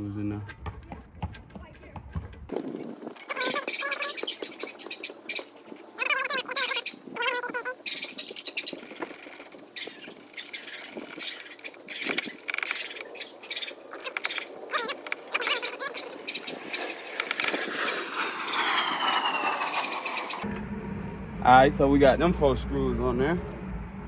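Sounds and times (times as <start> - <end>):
falling whine: 2.5 - 24.0.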